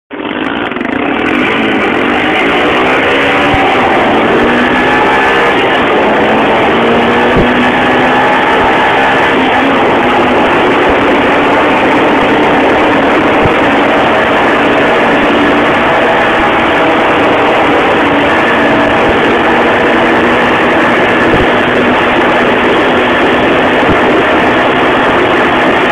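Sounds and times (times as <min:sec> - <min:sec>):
constant rushing noise: 0:00.1 - 0:25.9
vehicle engine running at speed: 0:00.1 - 0:25.9.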